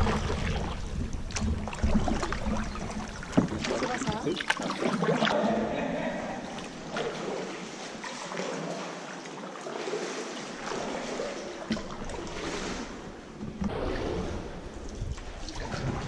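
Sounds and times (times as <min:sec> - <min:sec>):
kayak paddle splashing: 0:00.0 - 0:16.0.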